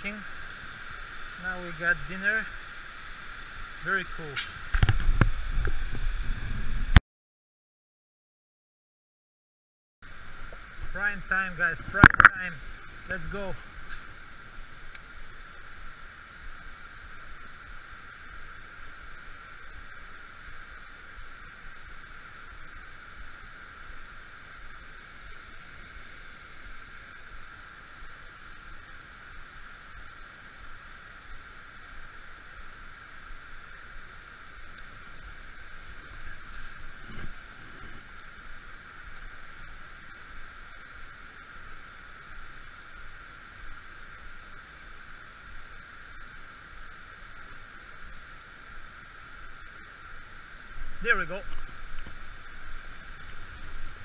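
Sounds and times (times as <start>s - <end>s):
high-pitched insect drone: 0.0s - 6.6s, 10.0s - 54.0s.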